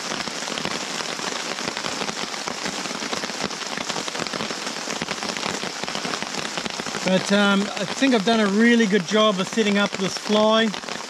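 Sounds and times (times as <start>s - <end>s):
heavy rain on a tarp: 0.0s - 11.0s.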